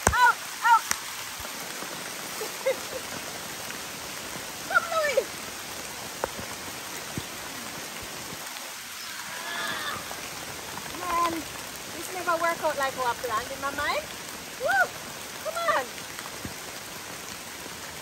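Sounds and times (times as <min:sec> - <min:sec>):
rain falling on foliage: 0:00.0 - 0:18.0.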